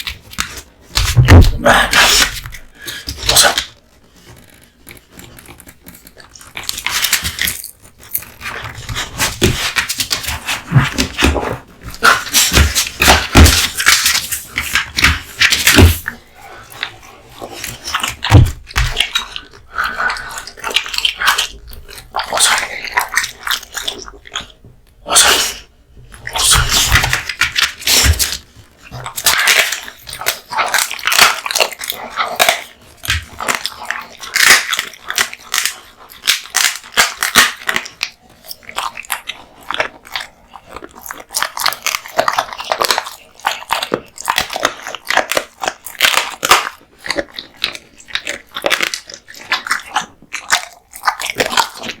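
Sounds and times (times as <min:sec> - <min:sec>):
dog chewing meat and bones: 0:00.0 - 0:52.0.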